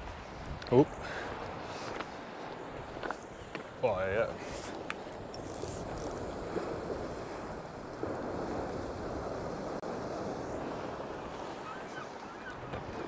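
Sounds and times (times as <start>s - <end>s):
waves breaking over rocks: 0.0s - 13.0s
wind buffeting microphone: 0.0s - 13.0s.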